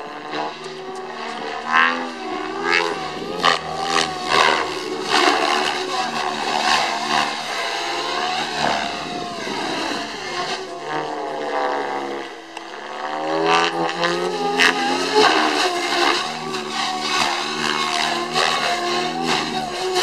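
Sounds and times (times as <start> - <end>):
model helicopter rotor whine: 0.0 - 20.0.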